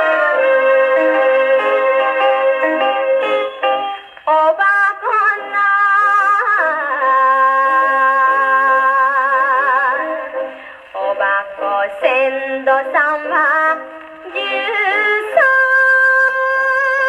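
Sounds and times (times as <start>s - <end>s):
woman singing on old record: 0.0s - 17.0s.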